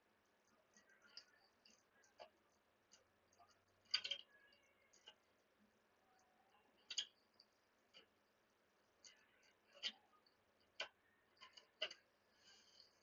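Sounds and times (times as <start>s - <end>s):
faint clicks: 0.0s - 13.0s.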